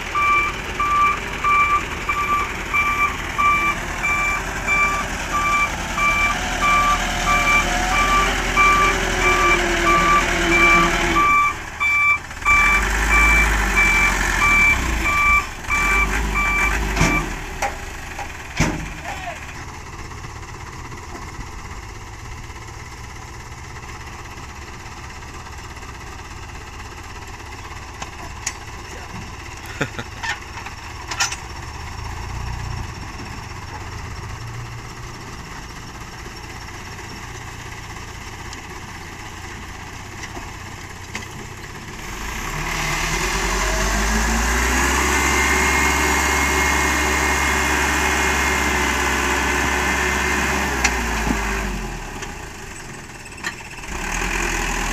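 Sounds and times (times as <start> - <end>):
diesel truck engine: 0.0 - 54.9.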